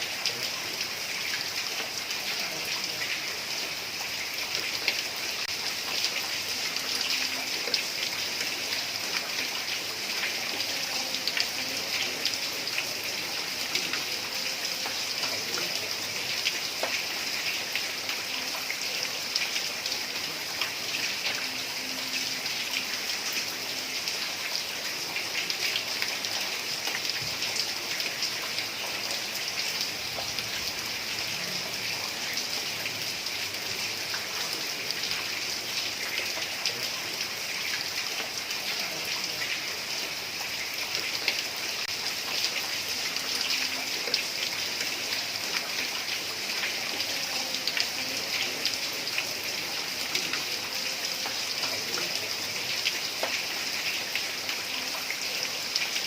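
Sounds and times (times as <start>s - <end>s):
heavy rain on roof tiles: 0.0s - 56.0s.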